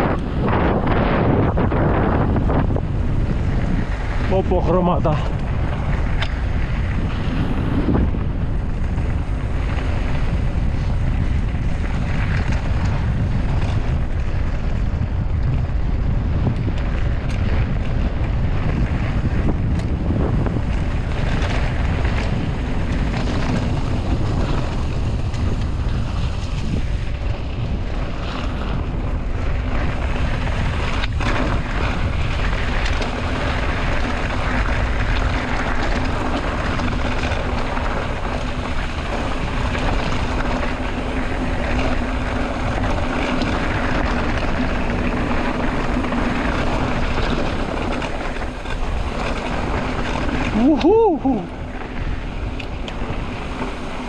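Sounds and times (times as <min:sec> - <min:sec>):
rumble of bike ride: 0:00.0 - 0:54.0
wind buffeting microphone: 0:00.0 - 0:54.0.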